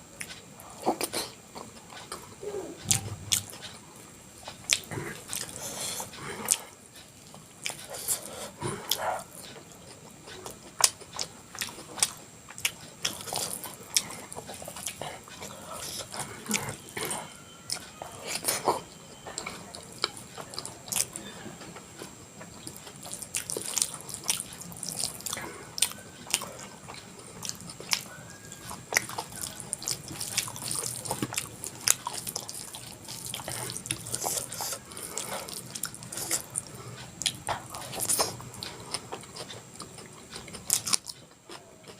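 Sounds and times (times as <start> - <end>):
wet chewing and lip-smacking: 4.4 - 21.2, 21.9 - 41.9.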